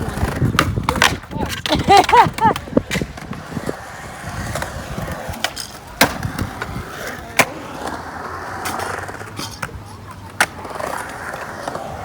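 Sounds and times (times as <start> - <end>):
skateboard clacks: 0.0 - 12.0
skateboard wheels rolling: 0.0 - 12.0.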